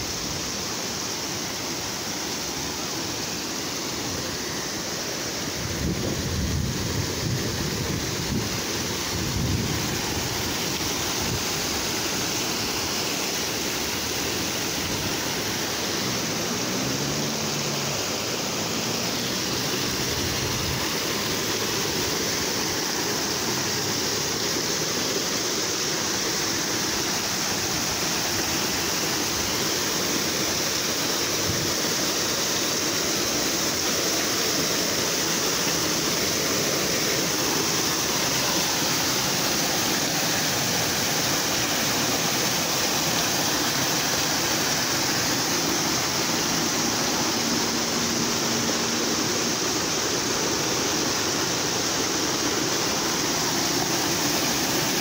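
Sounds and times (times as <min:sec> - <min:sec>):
river rushing over rapids: 0:00.0 - 0:55.0.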